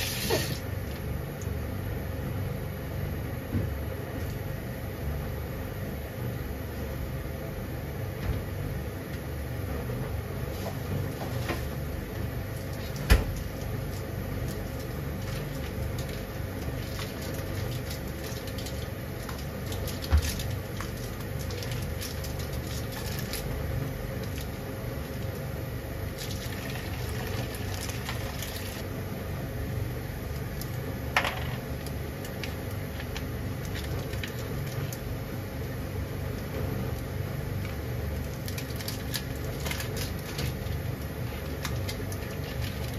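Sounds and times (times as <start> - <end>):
gas burner rumble: 0.0 - 42.9.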